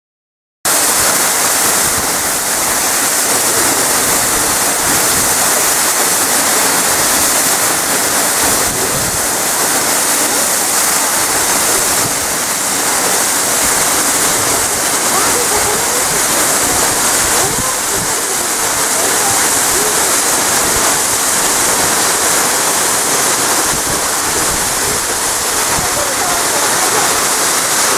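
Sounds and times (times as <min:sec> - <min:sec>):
waterfall roaring: 0:00.7 - 0:27.9.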